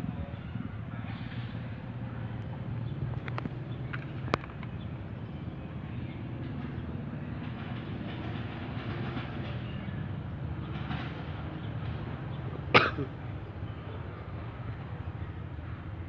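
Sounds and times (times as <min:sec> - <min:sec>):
locomotive diesel drone: 0:00.0 - 0:16.0.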